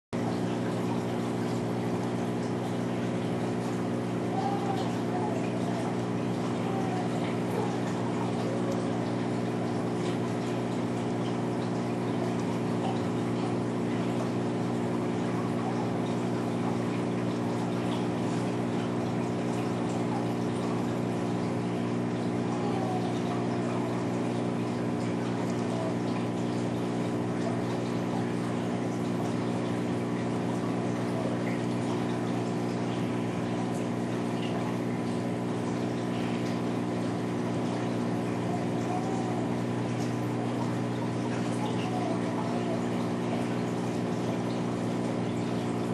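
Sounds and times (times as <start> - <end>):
aquarium pump humming: 0.1 - 45.9
water circulating: 0.1 - 45.9.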